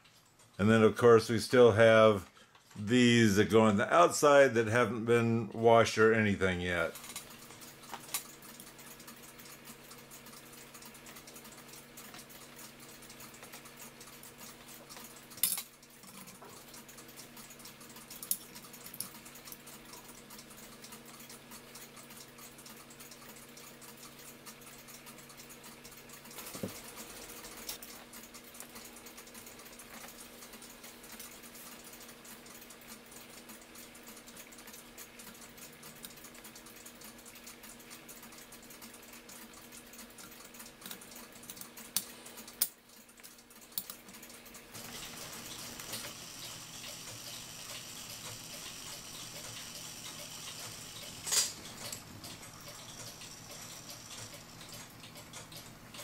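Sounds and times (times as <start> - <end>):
clock parts clicking and tapping: 6.8 - 56.0.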